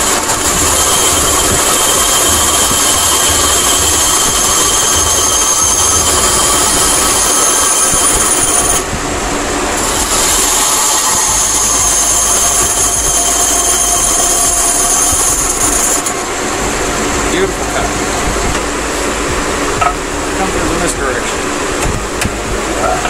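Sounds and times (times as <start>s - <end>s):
band saw whining: 0.0s - 23.0s.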